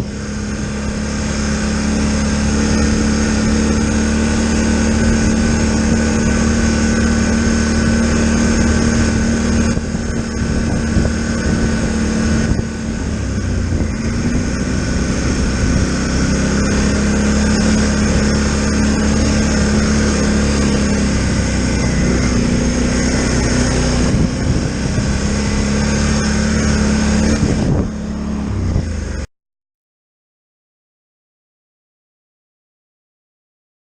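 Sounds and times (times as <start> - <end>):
atv engine revving: 0.0 - 29.3.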